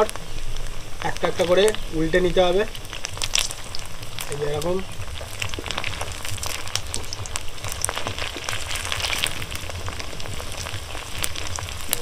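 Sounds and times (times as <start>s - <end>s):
oil crackling and popping: 0.0s - 12.0s.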